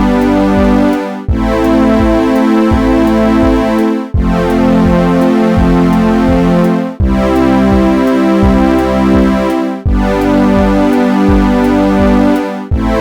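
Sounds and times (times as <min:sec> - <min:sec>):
steady low beat: 0:00.0 - 0:13.0
synthesizer and keyboard chords: 0:00.0 - 0:13.0.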